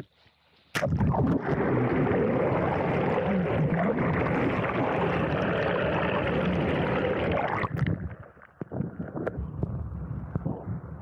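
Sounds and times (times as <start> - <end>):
muffled underwater rushing: 0.8 - 10.7.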